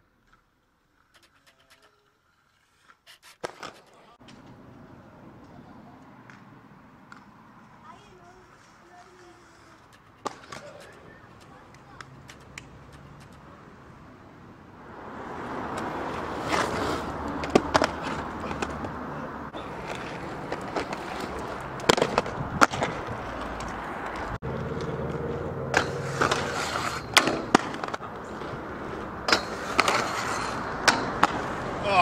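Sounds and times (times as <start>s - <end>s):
skate wheels rolling on asphalt: 0.0s - 32.0s
skates clacking on edges and rail: 0.2s - 4.6s, 5.4s - 13.7s, 15.7s - 32.0s.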